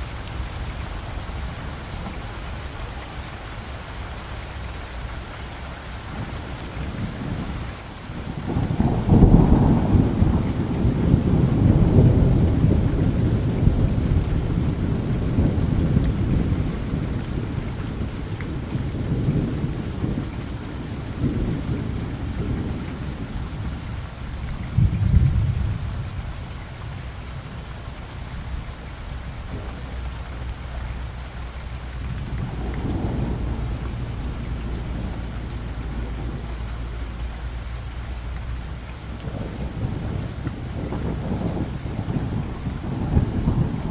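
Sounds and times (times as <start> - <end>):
low rolling thunder: 0.0 - 43.9
steady rain falling: 0.0 - 43.9.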